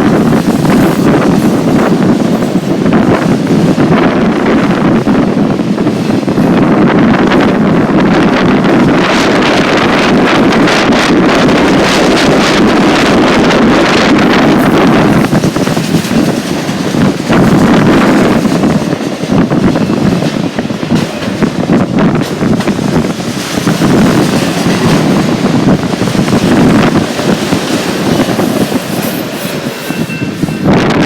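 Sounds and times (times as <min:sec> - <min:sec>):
freight train rumbling past: 0:00.0 - 0:31.0
wind buffeting microphone: 0:00.0 - 0:31.0.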